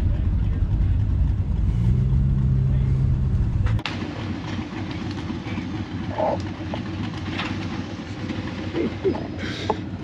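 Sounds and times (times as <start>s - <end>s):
engine low uneven rumble: 0.0s - 10.0s.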